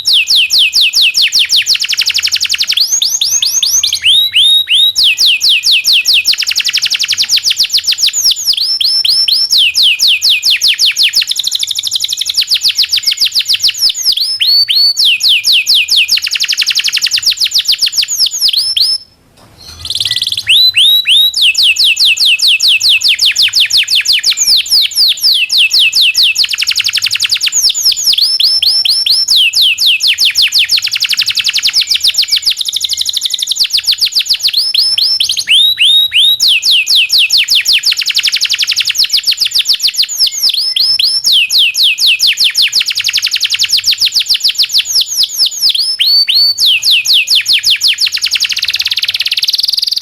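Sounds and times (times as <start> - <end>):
canary singing trills: 0.0 - 50.0.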